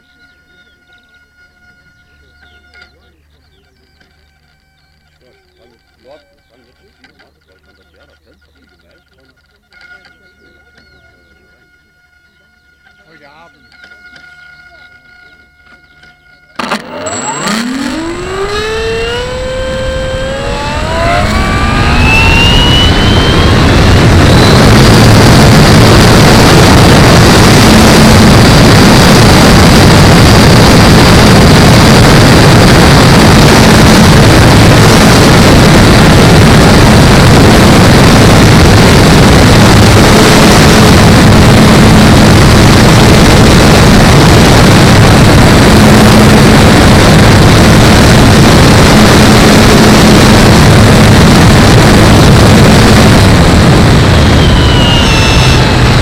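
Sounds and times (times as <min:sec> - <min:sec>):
model plane engine running: 0:00.0 - 0:56.0.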